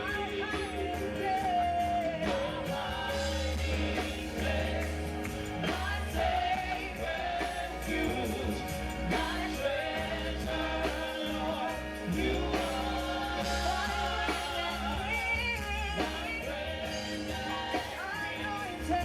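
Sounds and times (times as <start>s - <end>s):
band with bass drums and guitar: 0.0s - 19.0s
praise team singing: 0.0s - 19.0s.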